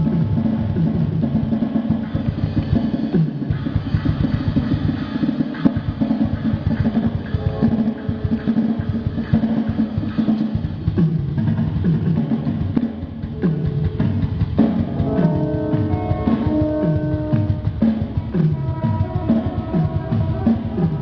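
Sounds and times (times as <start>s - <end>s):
electronic drum kit playing: 0.0s - 21.0s.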